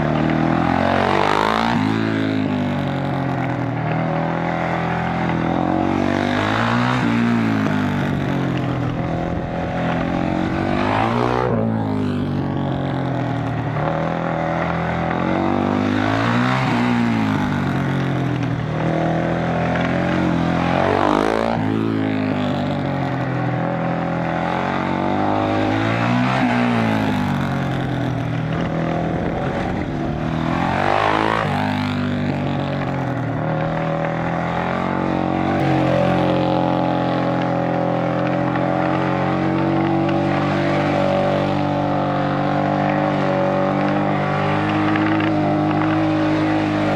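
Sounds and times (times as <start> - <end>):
racing motorcycle engine revving: 0.0 - 46.9.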